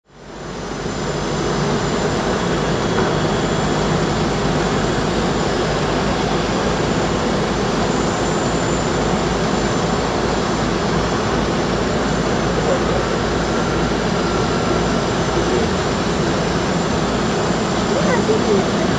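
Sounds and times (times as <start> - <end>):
jet engine rush and whine: 0.1 - 18.9.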